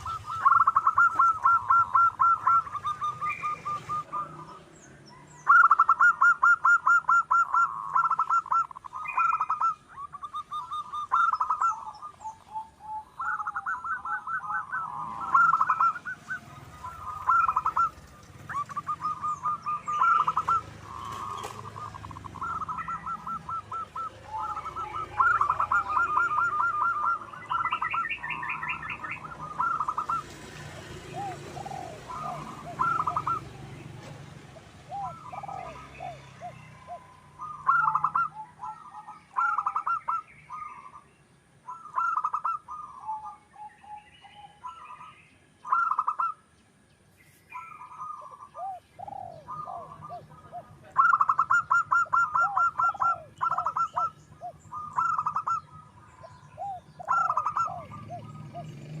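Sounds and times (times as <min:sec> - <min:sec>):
doves cooing: 0:00.0 - 0:46.6, 0:47.5 - 0:59.0
small birds chirping: 0:00.0 - 0:59.0.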